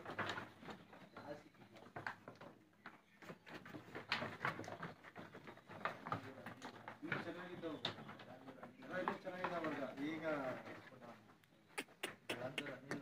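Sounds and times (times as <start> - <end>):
sheep hooves on wooden floor: 0.0 - 11.3.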